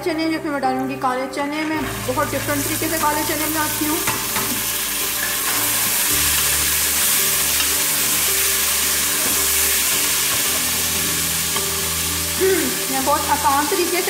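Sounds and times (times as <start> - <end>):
chickpeas sizzling in hot oil: 1.8 - 14.0.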